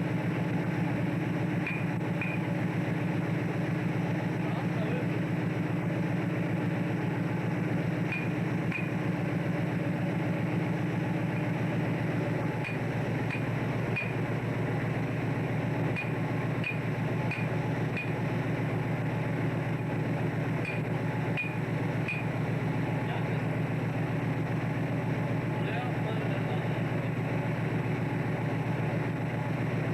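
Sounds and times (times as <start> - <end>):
boat engine droning: 0.0 - 29.9.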